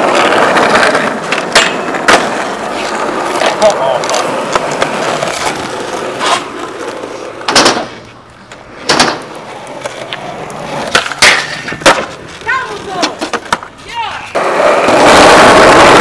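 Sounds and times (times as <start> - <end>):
skateboard clacking on ground: 0.0 - 16.0
skateboard wheels rolling on concrete: 0.0 - 16.0.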